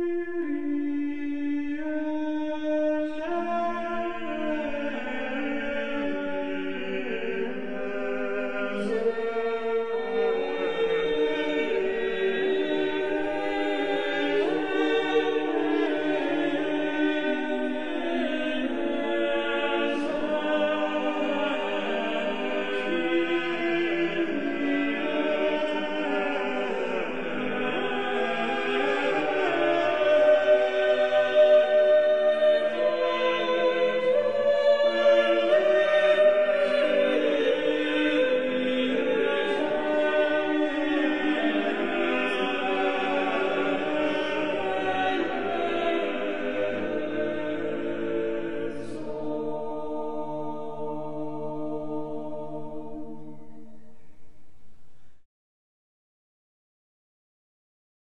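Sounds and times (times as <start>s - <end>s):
choir singing held chords: 0.0s - 54.4s.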